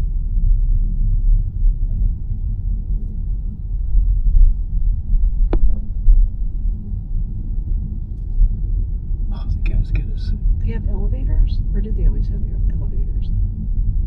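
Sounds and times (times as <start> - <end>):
road rumble inside car: 0.0 - 14.0.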